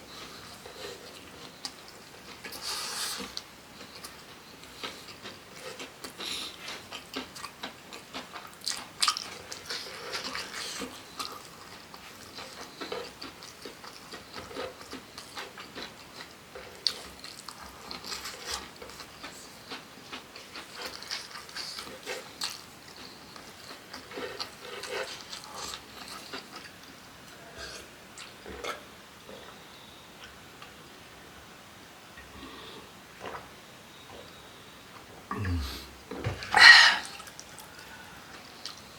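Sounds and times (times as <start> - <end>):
person chewing food: 0.1 - 29.6, 35.4 - 38.9.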